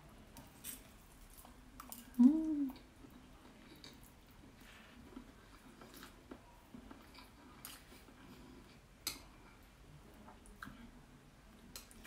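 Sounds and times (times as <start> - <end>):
quiet chewing of noodles: 0.3 - 12.0.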